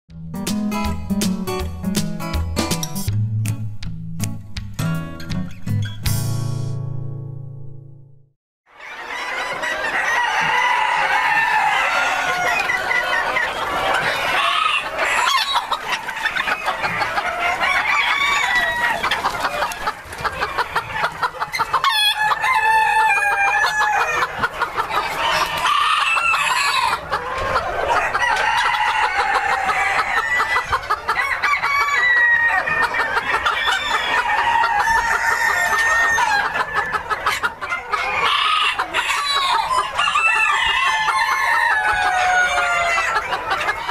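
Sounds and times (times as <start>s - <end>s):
chickens clucking and cackling: 8.7s - 43.9s
roosters crowing: 8.7s - 43.9s.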